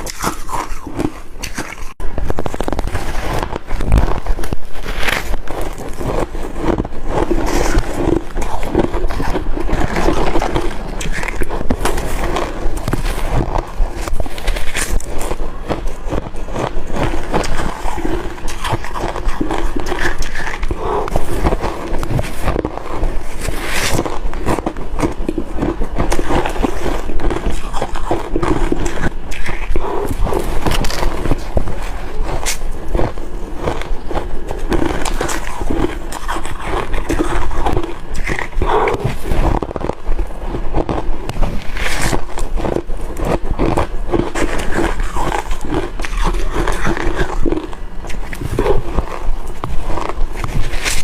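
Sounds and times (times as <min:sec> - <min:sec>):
ice being crunched: 0:00.0 - 0:51.0.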